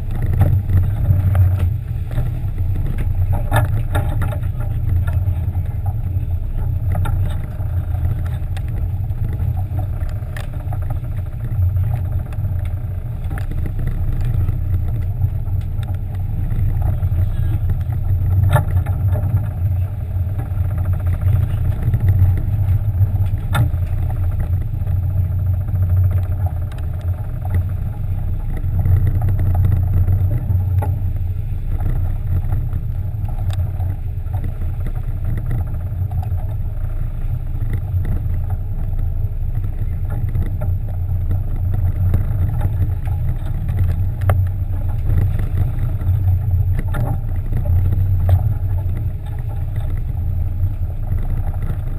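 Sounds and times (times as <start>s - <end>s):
boat engines droning: 0.0s - 51.9s.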